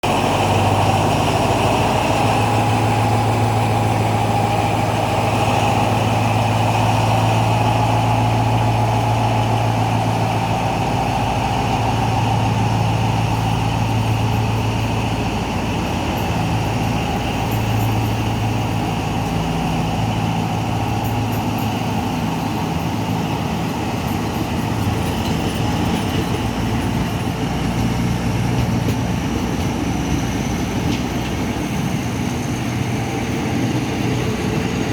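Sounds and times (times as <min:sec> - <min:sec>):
diesel locomotive engine humming: 0:00.0 - 0:34.9.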